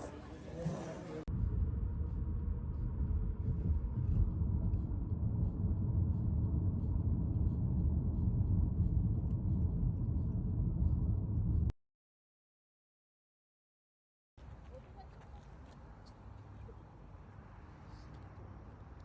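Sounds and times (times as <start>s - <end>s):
moving vehicle rumble: 0.0s - 11.7s, 14.4s - 19.0s.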